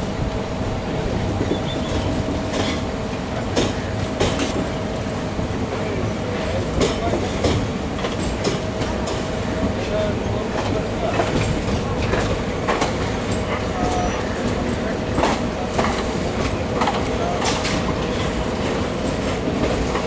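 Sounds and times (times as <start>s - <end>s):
train rumbling along track: 0.0s - 20.0s.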